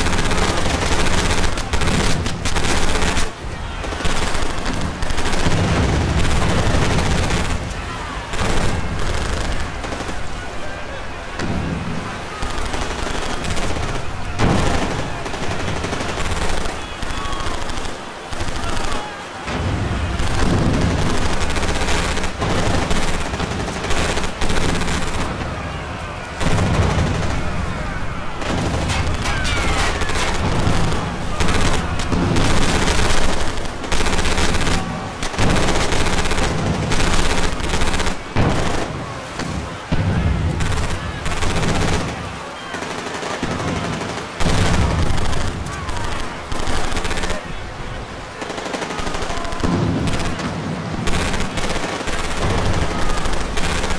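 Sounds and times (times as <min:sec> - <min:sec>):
rapid gunfire: 0:00.0 - 0:25.7, 0:26.4 - 0:47.6, 0:48.3 - 0:53.9.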